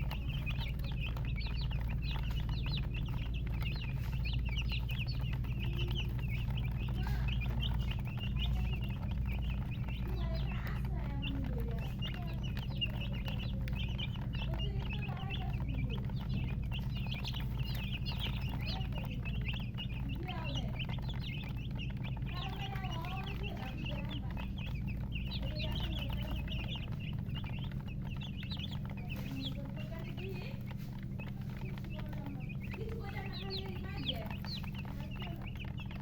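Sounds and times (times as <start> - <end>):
chicks peeping: 0.0 - 36.0
hen clucking: 0.0 - 36.0.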